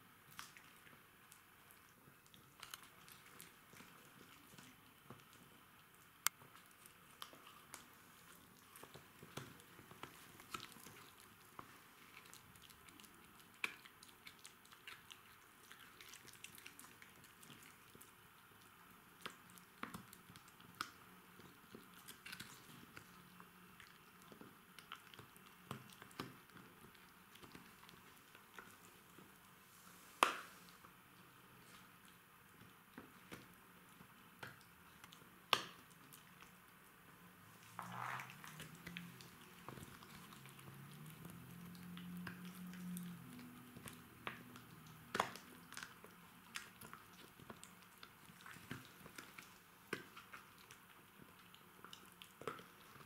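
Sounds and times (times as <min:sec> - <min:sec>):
dog gnawing chew stick: 0:00.3 - 0:29.6, 0:31.6 - 0:36.6, 0:37.6 - 0:53.0.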